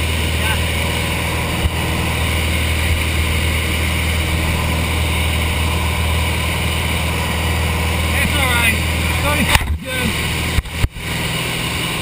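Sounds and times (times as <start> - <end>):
small plane engine droning: 0.0 - 12.0
air rushing: 0.6 - 11.9.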